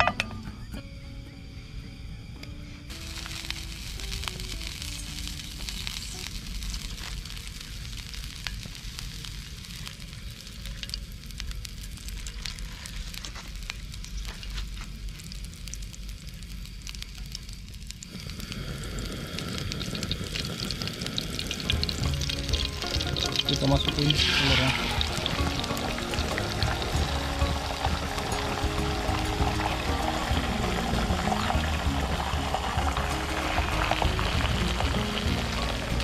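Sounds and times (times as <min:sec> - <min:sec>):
oil sizzling in a pan: 0:02.9 - 0:36.0.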